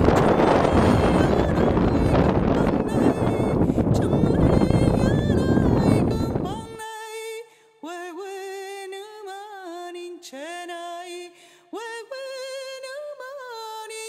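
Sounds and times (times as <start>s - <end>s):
solo voice singing unaccompanied: 0.0s - 14.0s.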